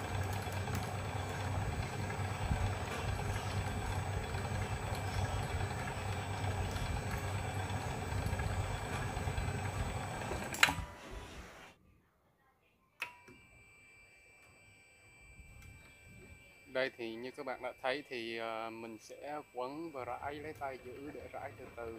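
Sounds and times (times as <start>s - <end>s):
coil-winding machine humming: 0.0s - 11.8s, 13.0s - 21.9s.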